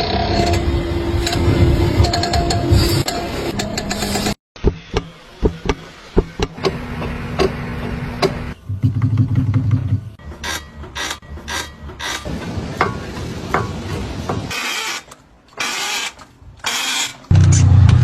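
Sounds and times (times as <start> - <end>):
vehicle engine: 0.0 - 14.4, 17.2 - 18.0.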